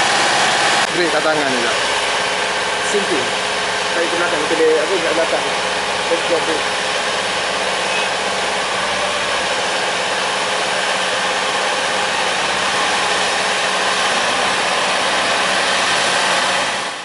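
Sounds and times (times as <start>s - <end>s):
construction machinery engine running: 0.0s - 17.0s.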